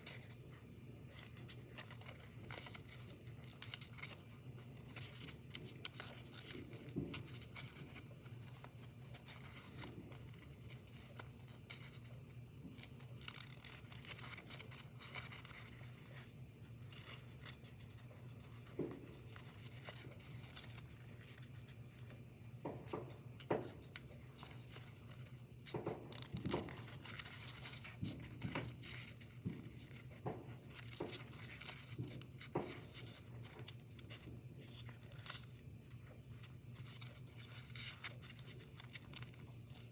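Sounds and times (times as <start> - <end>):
low steady hum: 0.0 - 39.9
paper rustling and crinkling: 0.0 - 39.9.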